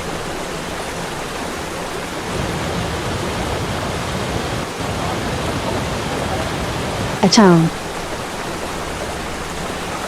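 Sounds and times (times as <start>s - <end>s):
waterfall rushing: 1.4s - 10.0s.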